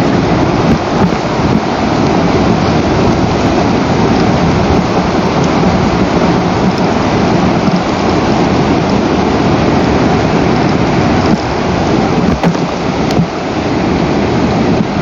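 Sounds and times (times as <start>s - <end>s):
loud steady rushing noise: 0.0s - 15.0s.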